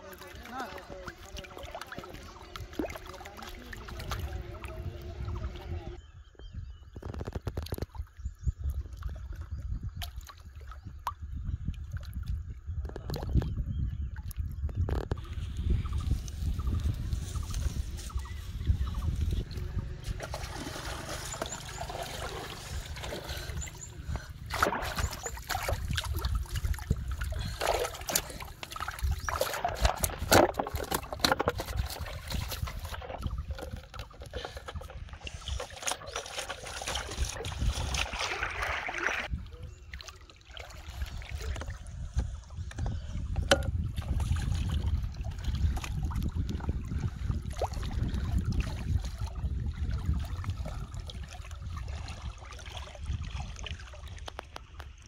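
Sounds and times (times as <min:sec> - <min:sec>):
water splashing and sloshing: 0:00.0 - 0:06.0, 0:07.0 - 0:55.0.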